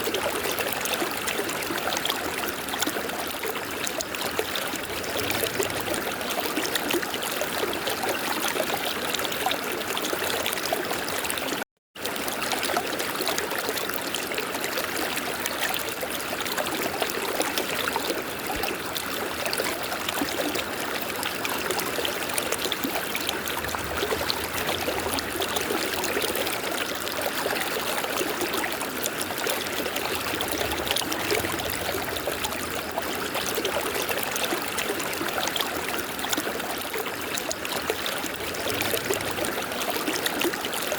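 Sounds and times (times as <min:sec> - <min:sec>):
river water flowing: 0:00.0 - 0:08.5, 0:12.1 - 0:40.9.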